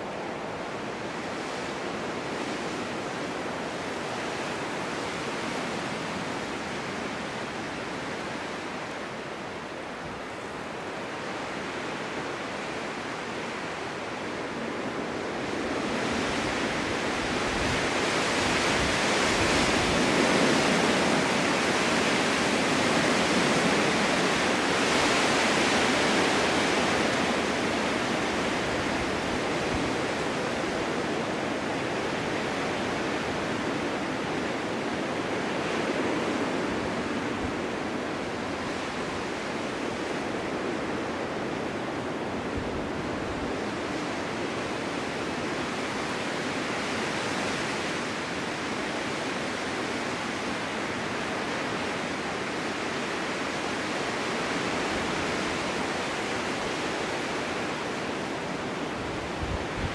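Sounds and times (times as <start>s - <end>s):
snowstorm wind blowing: 0.0s - 59.9s.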